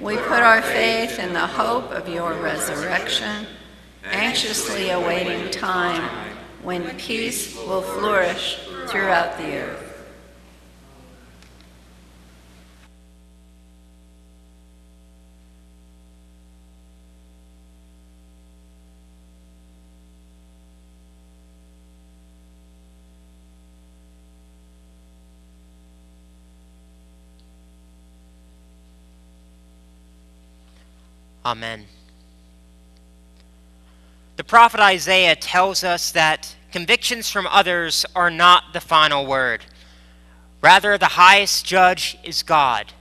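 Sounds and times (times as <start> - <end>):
electrical mains hum: 0.0 - 43.0.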